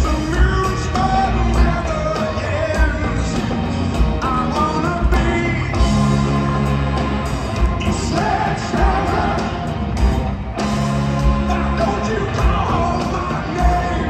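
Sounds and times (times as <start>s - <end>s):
lead vocal singing: 0.0s - 10.2s, 11.2s - 14.0s
live rock band playing: 0.0s - 14.0s.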